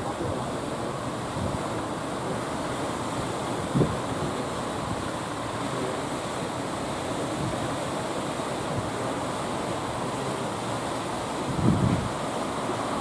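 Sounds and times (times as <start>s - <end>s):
waves breaking: 0.0s - 13.0s
wind: 0.0s - 13.0s.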